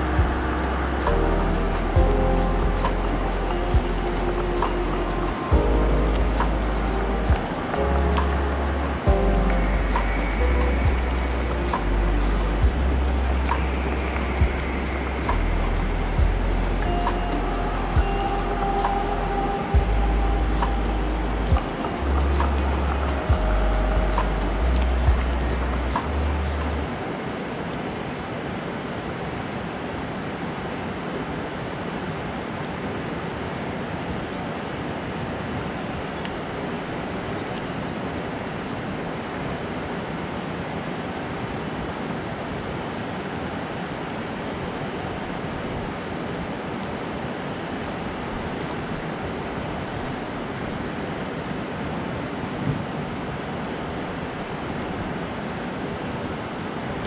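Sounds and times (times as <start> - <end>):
water rushing over a spillway: 0.0 - 57.0.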